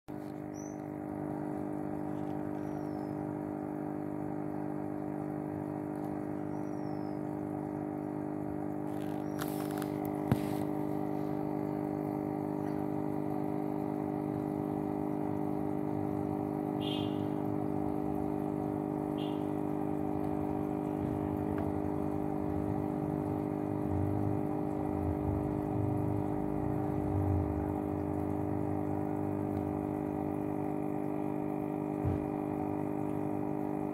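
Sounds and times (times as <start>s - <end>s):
aquarium pump humming: 0.1s - 33.9s
faint water noise: 0.1s - 33.9s.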